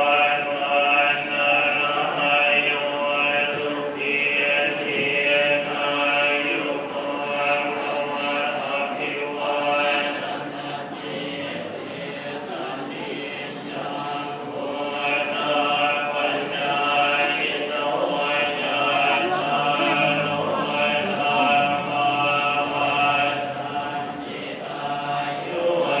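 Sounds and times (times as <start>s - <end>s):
monks chanting in unison: 0.0s - 26.0s.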